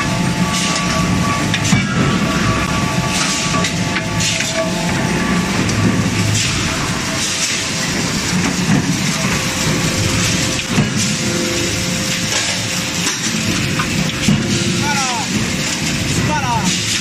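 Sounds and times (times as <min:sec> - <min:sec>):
machinery din: 0:00.0 - 0:17.0.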